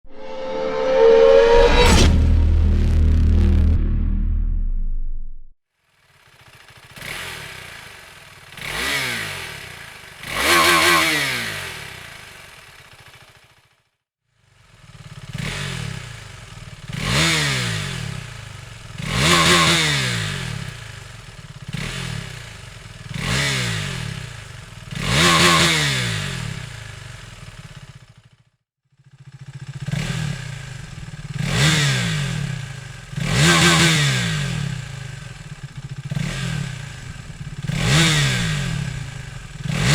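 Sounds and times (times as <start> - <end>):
motorcycle engine revving: 6.0 - 13.6, 14.6 - 28.4, 29.1 - 39.9.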